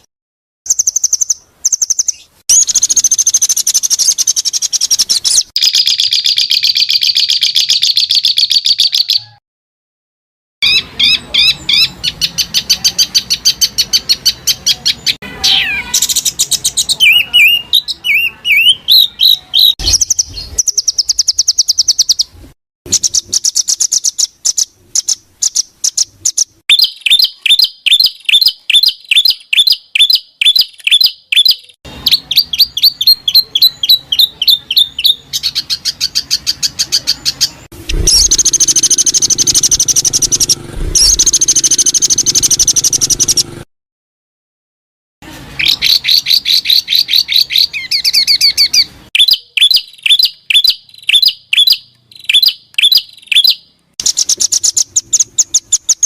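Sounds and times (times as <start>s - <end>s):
songbird chirps and trills: 0.7s - 9.4s, 10.6s - 43.6s, 45.6s - 56.0s.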